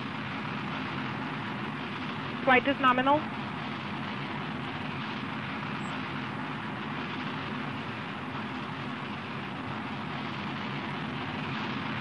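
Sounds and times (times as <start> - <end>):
rocket engine roar: 0.0 - 12.0.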